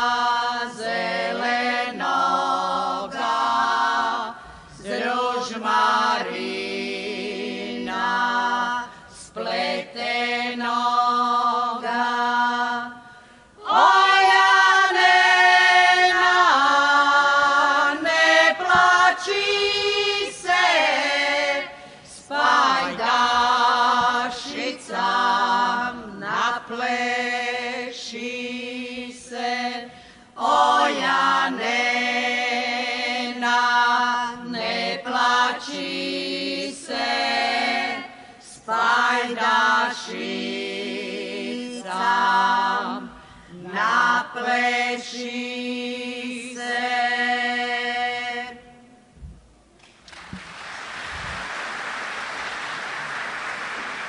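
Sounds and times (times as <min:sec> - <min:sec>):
women singing a cappella: 0:00.0 - 0:49.2.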